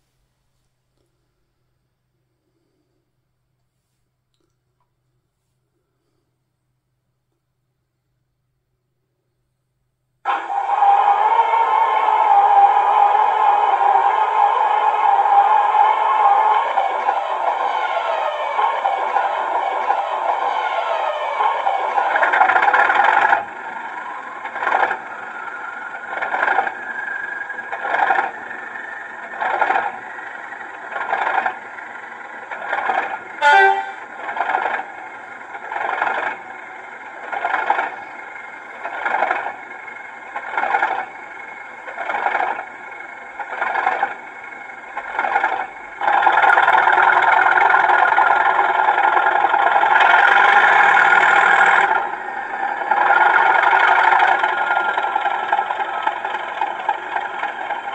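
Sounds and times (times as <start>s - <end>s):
diesel engine running: 10.3s - 57.9s
slow electronic pulse: 10.3s - 57.9s.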